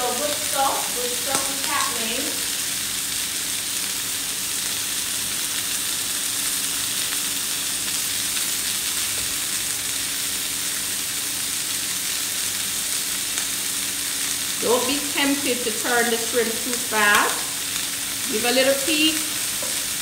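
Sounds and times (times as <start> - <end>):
shrimp sizzling in a pan: 0.0 - 20.0.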